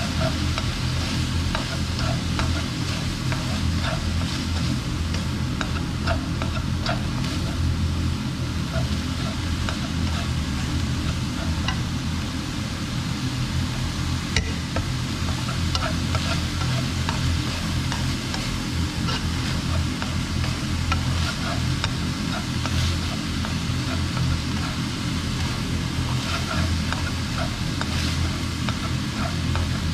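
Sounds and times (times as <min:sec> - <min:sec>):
food sizzling in a wok: 0:00.0 - 0:29.9
steady low hum: 0:00.0 - 0:29.9.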